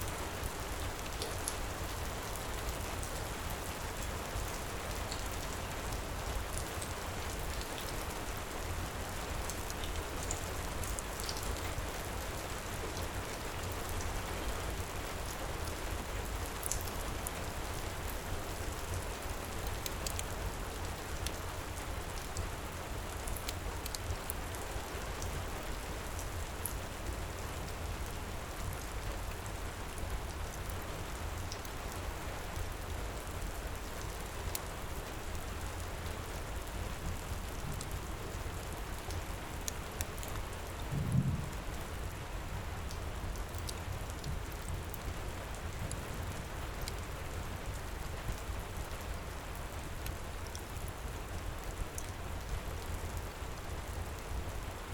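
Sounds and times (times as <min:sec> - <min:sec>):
heavy rain falling: 0:00.1 - 0:54.9.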